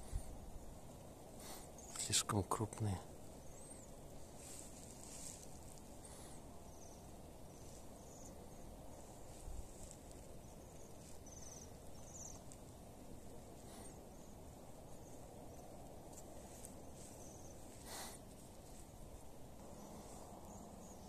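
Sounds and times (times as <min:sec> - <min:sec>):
songbirds trilling: 0:00.0 - 0:21.0.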